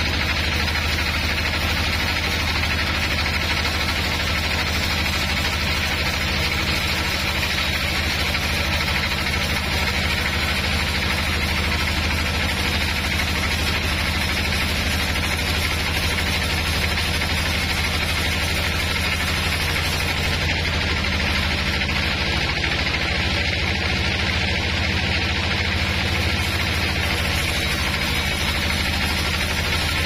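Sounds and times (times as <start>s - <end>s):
band sawmill humming: 0.0s - 30.0s.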